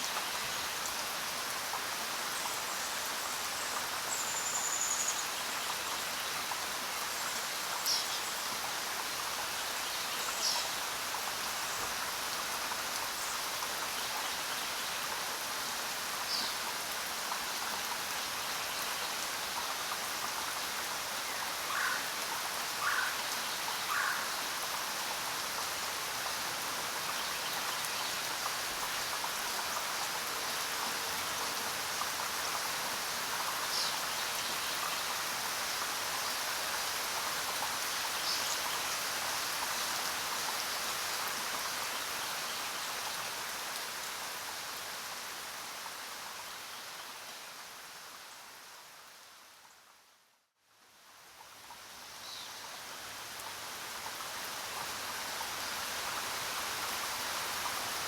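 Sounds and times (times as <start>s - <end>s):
rain falling: 0.0s - 50.1s, 50.8s - 58.0s.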